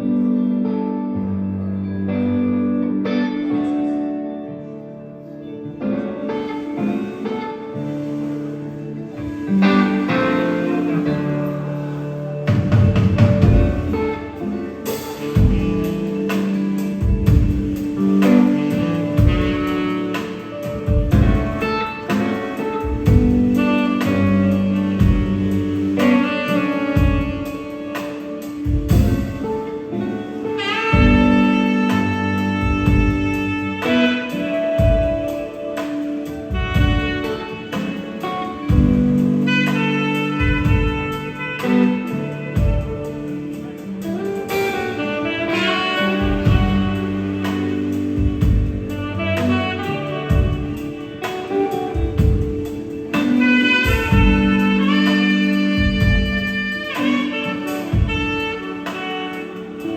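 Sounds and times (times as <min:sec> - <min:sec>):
band music with guitar and drums: 0:00.0 - 0:59.9
sustained instrumental chords: 0:00.0 - 0:59.9.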